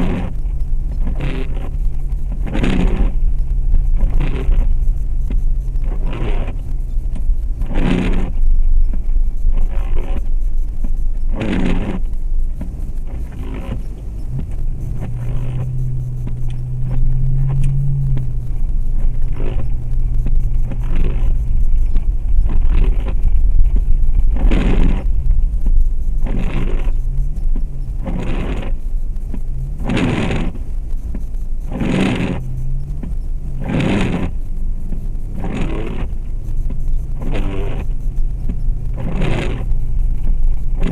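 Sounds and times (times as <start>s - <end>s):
car engine running: 0.0s - 40.9s
windshield wipers swishing: 0.0s - 40.9s.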